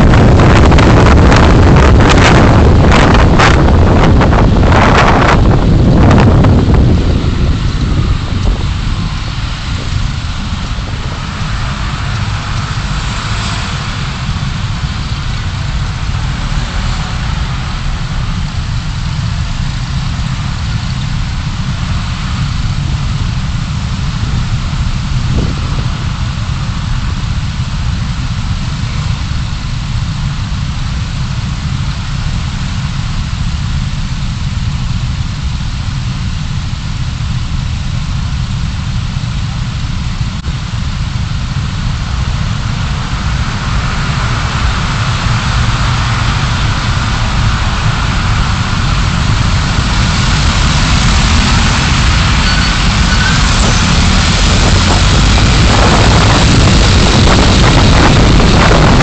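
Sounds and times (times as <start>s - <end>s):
car driving rumble: 0.0s - 59.0s.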